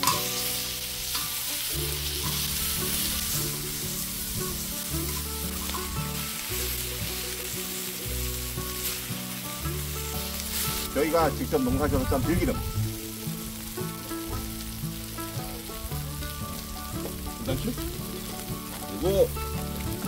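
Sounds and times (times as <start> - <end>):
meat sizzling on griddle: 0.0 - 20.0.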